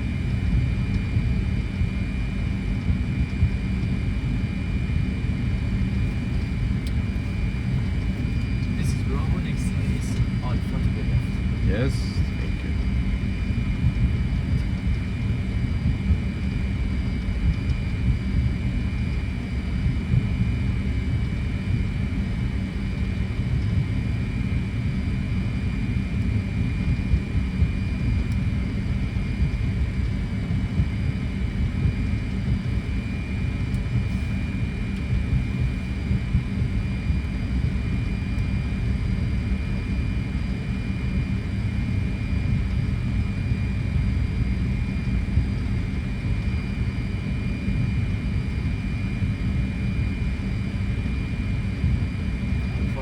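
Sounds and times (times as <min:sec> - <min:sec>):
airliner engines idling: 0:00.0 - 0:53.0.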